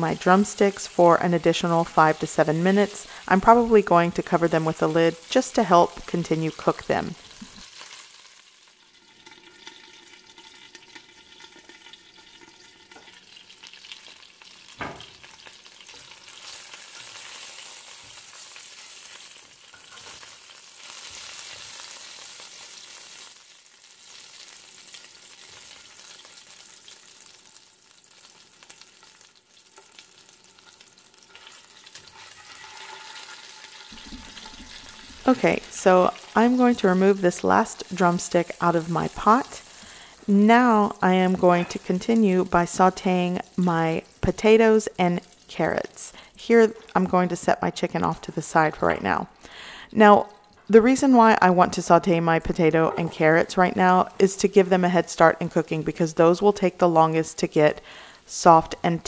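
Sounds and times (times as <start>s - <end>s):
chicken sizzling in hot oil: 0.0s - 47.2s, 52.4s - 59.0s.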